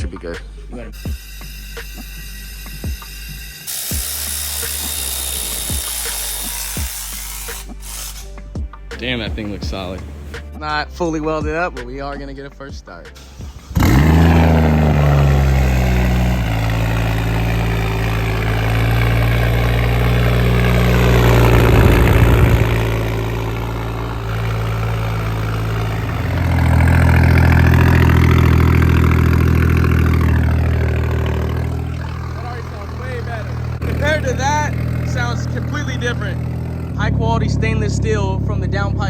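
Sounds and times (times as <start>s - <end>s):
car engine starting and idling: 0.0s - 39.0s.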